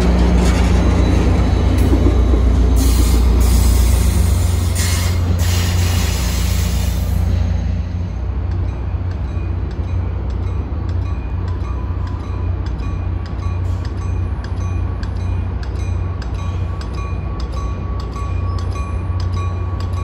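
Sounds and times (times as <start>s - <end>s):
deep train engine rumble: 0.0s - 20.0s.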